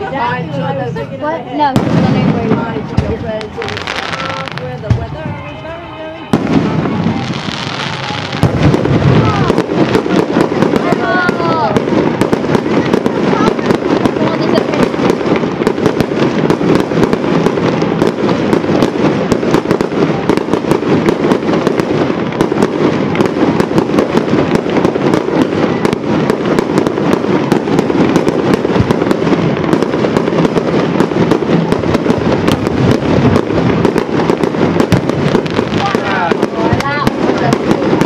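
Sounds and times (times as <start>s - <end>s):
fireworks bursting: 0.0s - 38.0s.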